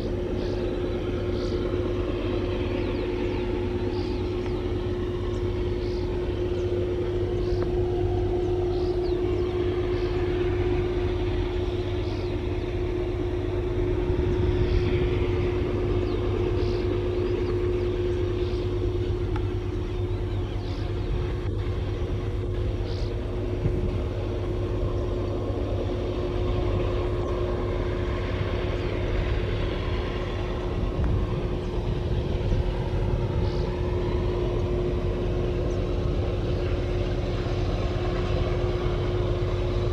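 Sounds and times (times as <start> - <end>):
constant hum: 0.0 - 39.9
train wheels rumbling on rails: 0.0 - 39.9.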